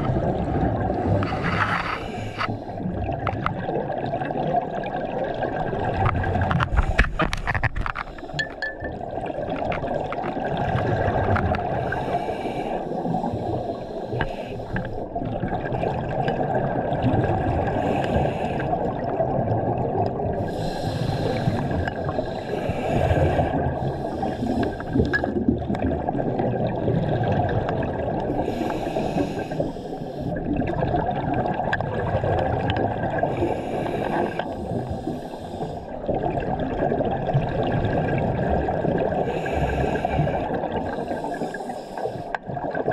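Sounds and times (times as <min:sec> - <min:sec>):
exhaust bubbles rushing underwater: 0:00.0 - 0:12.3, 0:12.9 - 0:42.9
low rumble of water: 0:00.0 - 0:42.9.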